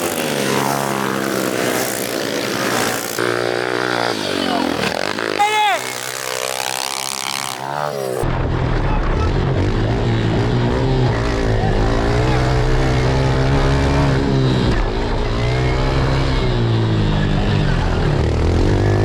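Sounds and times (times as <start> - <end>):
pit bike engines racing: 0.0 - 19.0.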